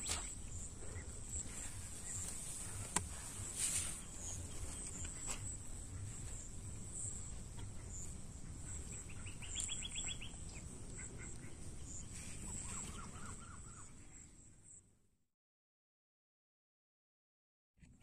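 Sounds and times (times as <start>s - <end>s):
bird calls: 0.0s - 14.8s.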